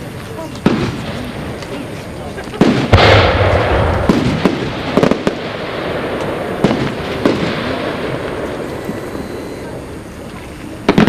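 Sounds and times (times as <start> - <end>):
firework shell burst crackling: 0.0 - 11.0
sharp firework bangs: 0.6 - 10.1, 10.8 - 11.0.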